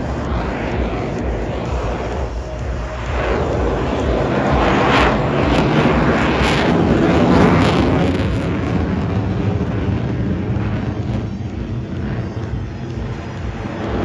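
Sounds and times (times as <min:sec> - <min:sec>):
fighter jet roar with crackle: 0:00.0 - 0:14.0.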